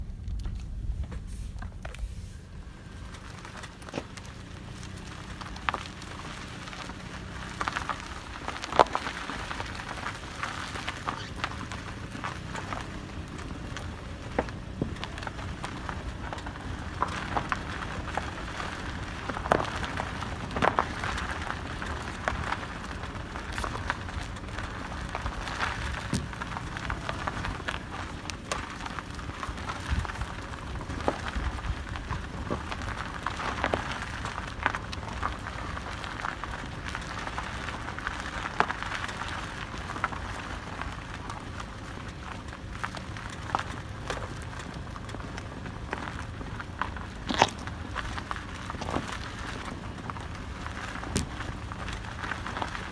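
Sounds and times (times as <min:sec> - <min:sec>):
car road noise: 0:00.0 - 0:52.9.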